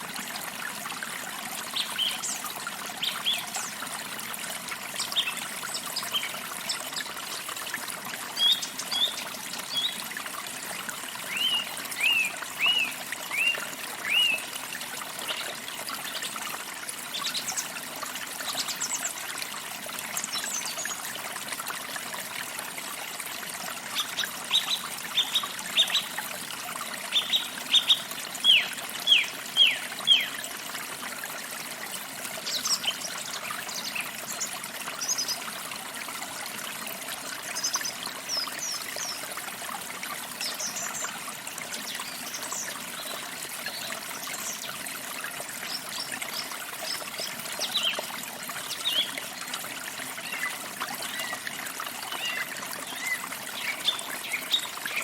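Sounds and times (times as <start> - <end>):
forest stream trickling: 0.0 - 55.0.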